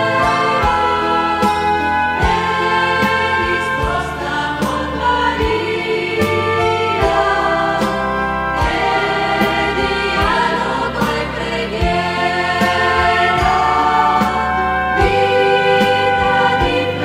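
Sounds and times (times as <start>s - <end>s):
choir singing a hymn: 0.0s - 17.0s
instrumental accompaniment: 0.0s - 17.0s.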